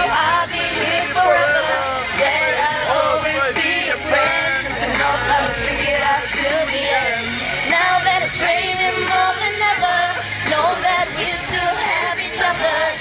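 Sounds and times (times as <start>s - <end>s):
young women singing together: 0.0s - 13.0s.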